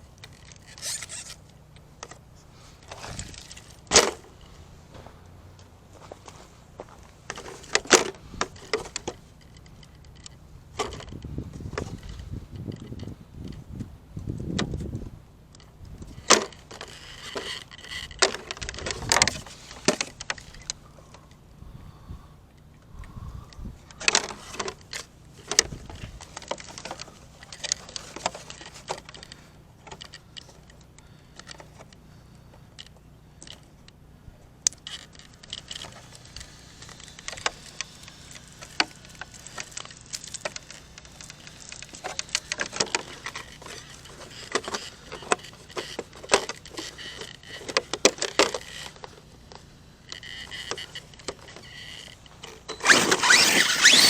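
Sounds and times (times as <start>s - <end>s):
rc truck clattering on gravel: 0.0s - 20.8s, 23.9s - 34.0s, 34.6s - 54.0s.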